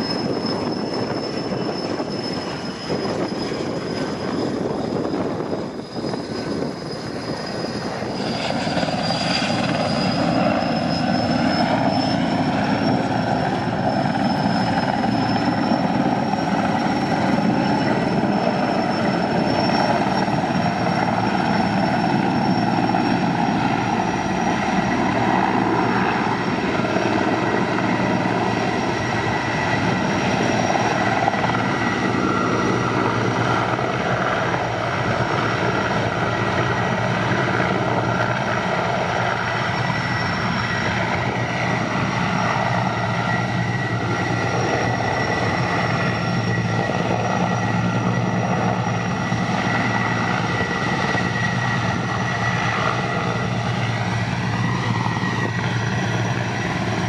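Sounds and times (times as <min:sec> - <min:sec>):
constant high whine: 0:00.0 - 0:57.0
helicopter rotor and turbine noise: 0:00.0 - 0:57.0.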